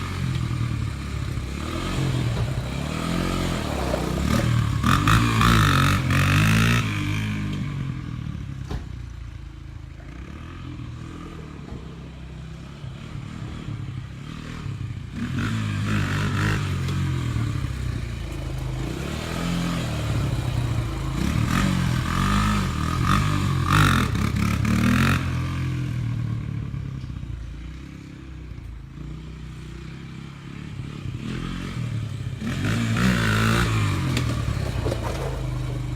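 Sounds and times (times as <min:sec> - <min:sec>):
atv engine revving: 0:00.0 - 0:08.6, 0:09.9 - 0:35.9.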